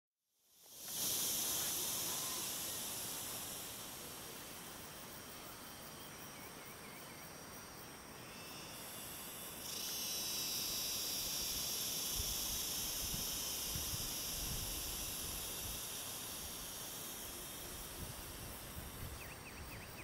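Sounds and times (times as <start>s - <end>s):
cicadas buzzing: 0.4s - 20.0s
faint chirps: 0.5s - 20.0s.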